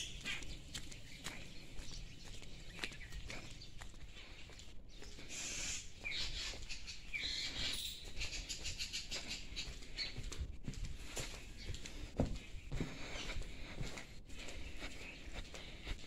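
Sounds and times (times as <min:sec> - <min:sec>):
birds chirping: 0:00.0 - 0:16.0
footsteps on paved walkway: 0:00.0 - 0:16.0.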